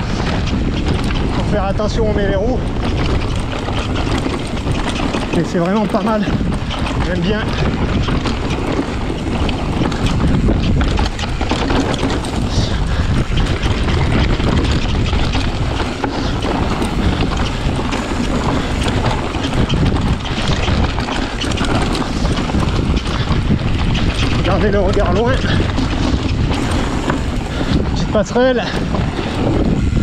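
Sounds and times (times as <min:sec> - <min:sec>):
bike rattling over bumps: 0:00.0 - 0:30.0
tyres rumbling over rough ground: 0:00.0 - 0:30.0
wind buffeting microphone: 0:00.0 - 0:30.0.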